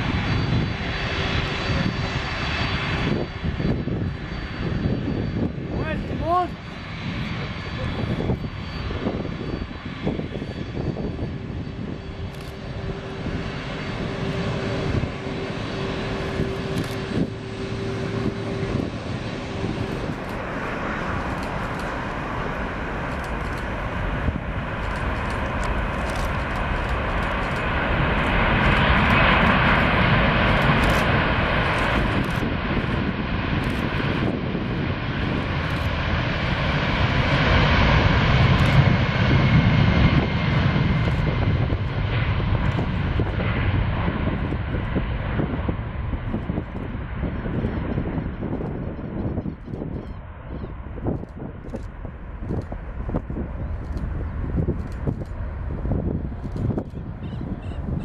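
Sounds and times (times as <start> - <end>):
jet engine rumble and hiss: 0.0 - 58.0.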